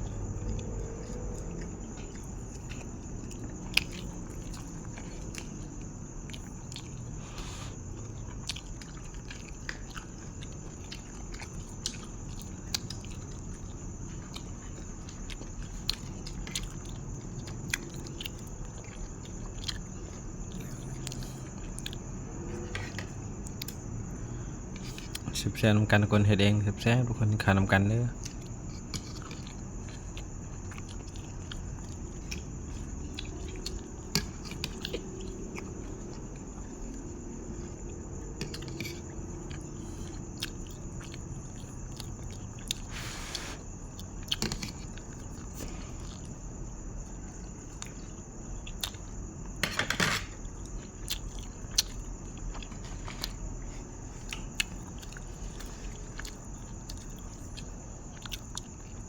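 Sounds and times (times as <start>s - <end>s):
person chewing food: 0.0s - 25.3s, 28.2s - 49.6s, 50.3s - 59.0s.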